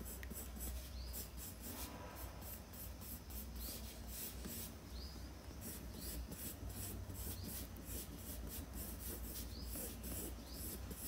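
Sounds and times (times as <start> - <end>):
pencil scratching on paper: 0.0 - 4.7, 5.6 - 11.0.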